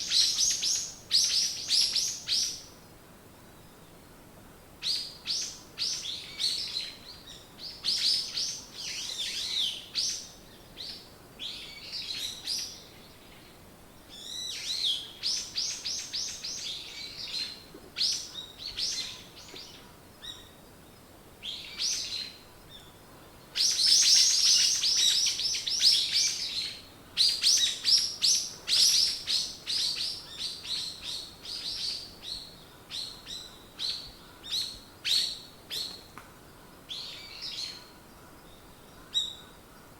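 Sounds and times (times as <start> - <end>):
songbirds chirping and trilling: 4.9 - 39.9.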